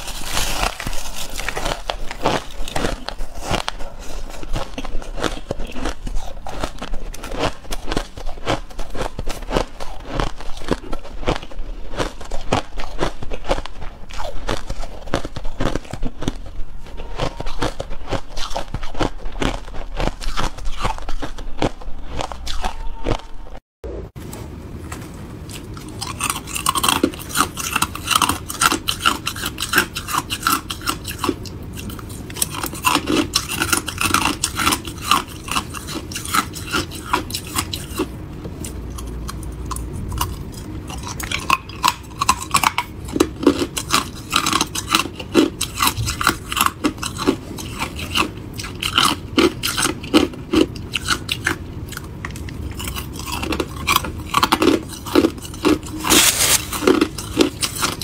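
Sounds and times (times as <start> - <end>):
ice crunching while chewed: 0.0 - 23.6, 25.4 - 58.0.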